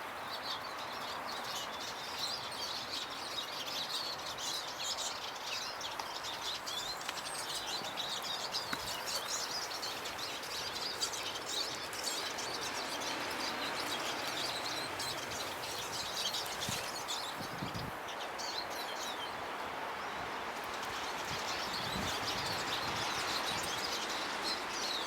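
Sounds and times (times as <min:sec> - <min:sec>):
songbirds twittering and chirping: 0:00.0 - 0:25.0.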